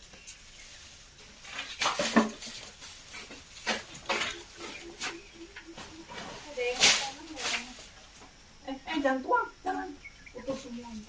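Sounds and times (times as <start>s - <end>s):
branches rustling and clattering: 0.0s - 9.0s.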